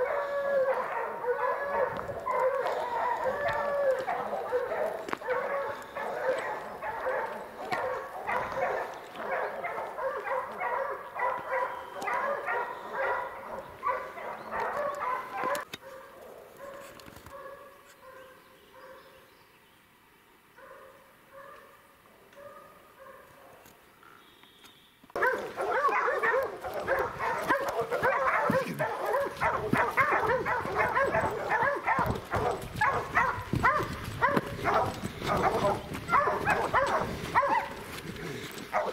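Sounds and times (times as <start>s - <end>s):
hounds barking: 0.0s - 19.2s, 20.6s - 23.7s, 25.2s - 38.9s.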